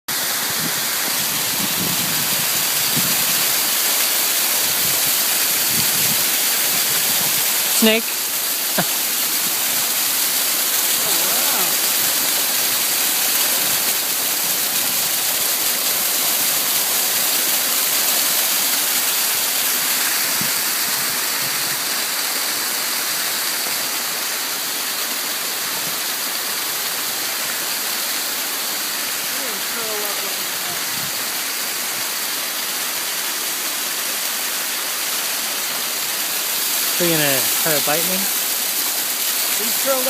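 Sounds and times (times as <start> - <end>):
running water rushing: 0.1 - 40.0.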